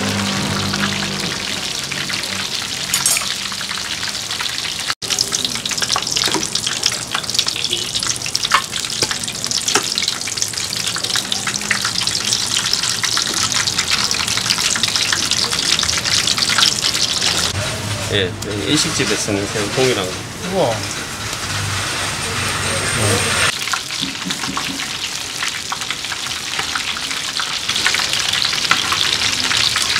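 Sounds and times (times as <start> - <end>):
deep-frying sizzle and pops: 0.0 - 18.8, 23.5 - 29.9.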